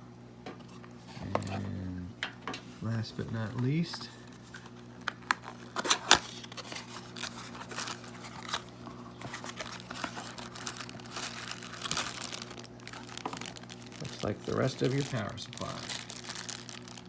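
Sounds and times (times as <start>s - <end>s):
plastic packaging crinkling: 2.6s - 17.0s.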